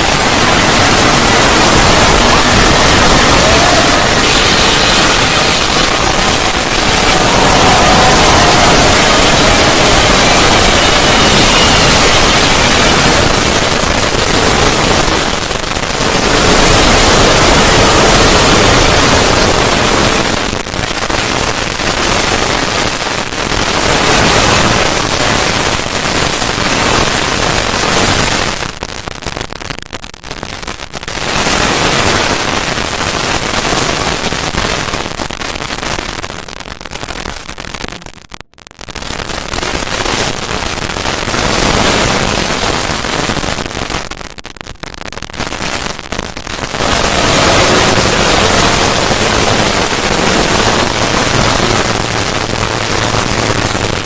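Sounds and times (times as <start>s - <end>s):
dense static-like crackling: 0.0s - 54.0s.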